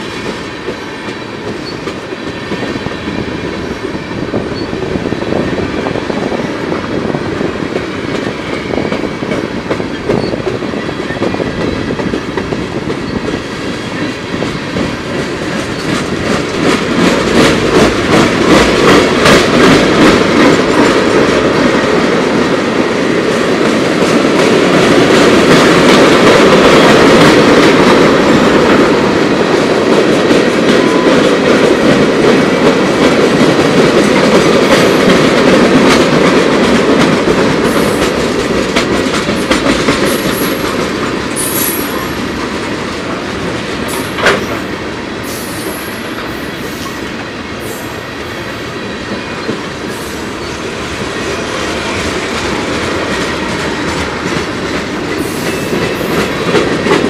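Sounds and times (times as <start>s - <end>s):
clickety-clack over rail joints: 0.0s - 57.0s
train wheels rumbling on rail: 0.0s - 57.0s.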